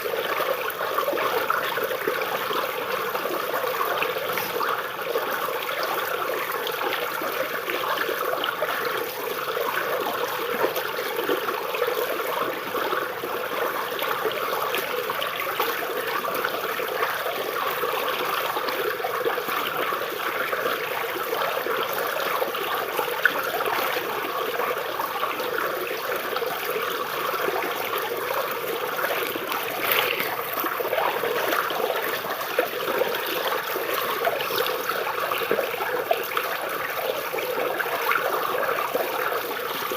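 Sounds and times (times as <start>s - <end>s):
small stream trickling: 0.0s - 39.9s.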